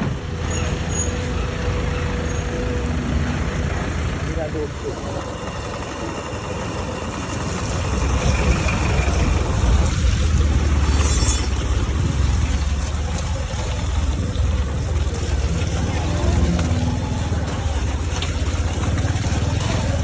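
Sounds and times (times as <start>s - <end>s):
heavy vehicle engine rumbling: 0.0s - 20.0s
road noise: 0.0s - 20.0s.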